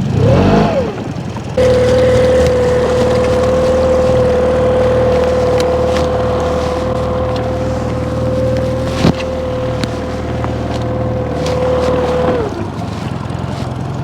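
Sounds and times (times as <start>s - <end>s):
boat motor starting and running: 0.0s - 14.0s.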